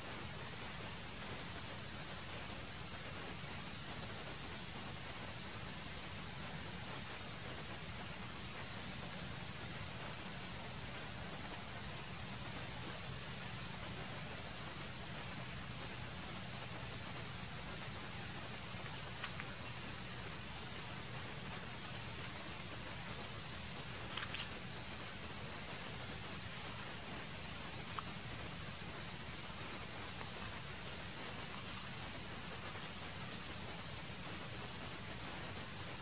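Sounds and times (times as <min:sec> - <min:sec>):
high-pitched insect chorus: 0:00.0 - 0:36.0
faint ticks: 0:06.0 - 0:36.0.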